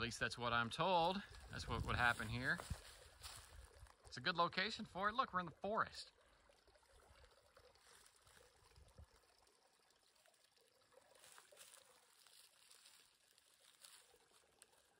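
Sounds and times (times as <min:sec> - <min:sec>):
faint trickle of water: 0:00.0 - 0:14.9.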